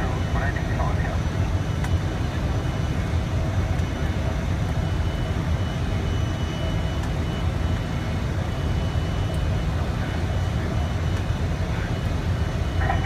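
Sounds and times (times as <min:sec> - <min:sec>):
airliner engine rumble inside cabin: 0:00.0 - 0:13.0
faint high whine: 0:00.0 - 0:13.0.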